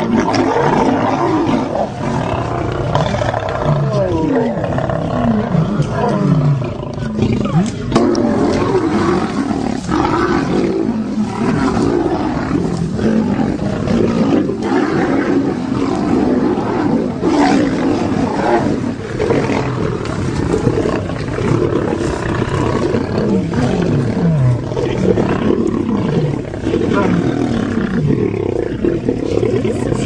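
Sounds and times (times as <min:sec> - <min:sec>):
lions growling: 0:00.0 - 0:30.0.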